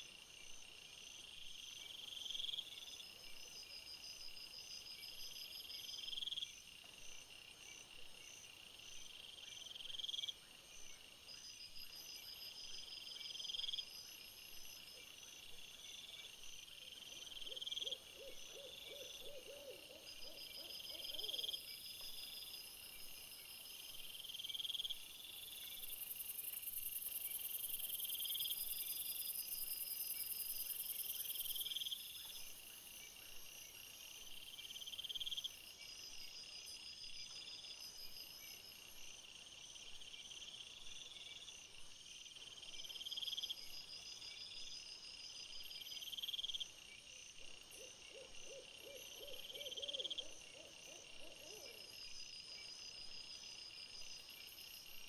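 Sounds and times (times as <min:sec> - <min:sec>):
low rattling insect call: 0:00.0 - 0:55.0.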